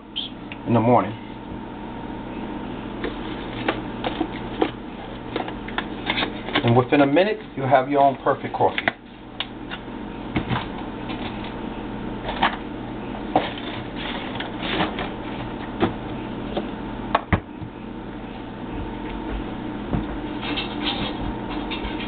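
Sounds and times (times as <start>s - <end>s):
coffee maker pump hum: 0.0s - 22.0s.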